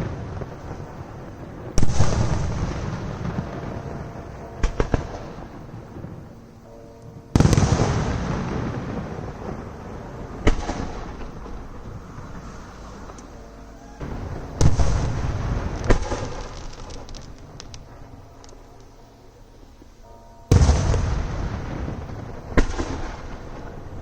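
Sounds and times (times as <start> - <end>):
fireworks bangs: 0.0 - 24.0
fireworks crackling: 0.0 - 24.0
rumbling echo: 0.0 - 24.0.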